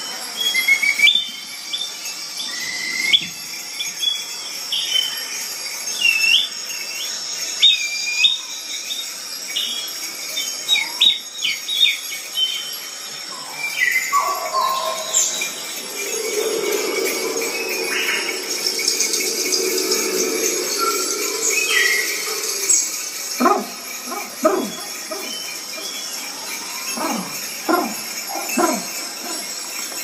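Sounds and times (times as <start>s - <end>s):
whistled bird chirps: 0.3s - 27.0s.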